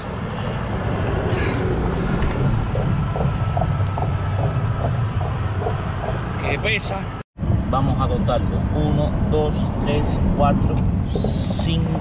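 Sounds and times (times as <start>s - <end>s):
road traffic noise: 0.0s - 12.0s
wind rumble on microphone: 0.0s - 12.0s.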